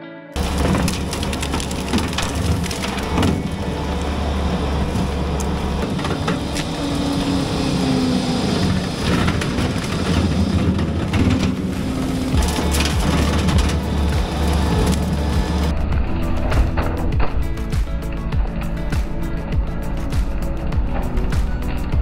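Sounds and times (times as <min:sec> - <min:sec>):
brush crunching and snapping: 0:00.4 - 0:19.2
skid steer with brush cutter: 0:00.4 - 0:22.0.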